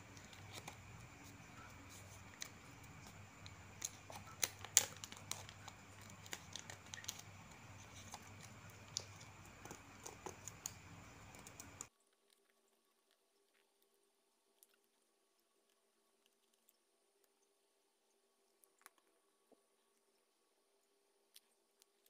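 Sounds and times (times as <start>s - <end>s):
faint room noise: 0.0s - 22.0s.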